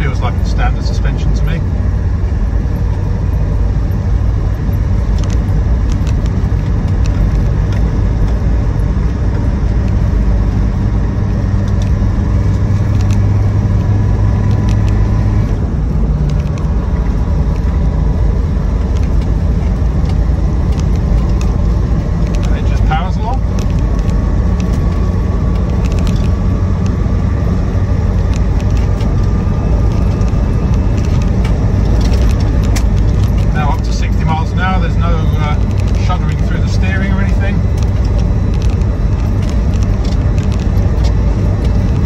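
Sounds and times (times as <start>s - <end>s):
diesel engine running: 0.0s - 42.0s
road and tyre noise: 0.0s - 42.0s.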